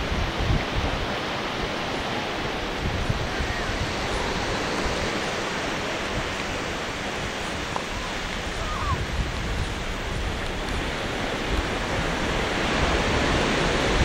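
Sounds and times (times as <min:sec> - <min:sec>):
surf rushing: 0:00.0 - 0:14.0
wind gusting on microphone: 0:00.0 - 0:14.0.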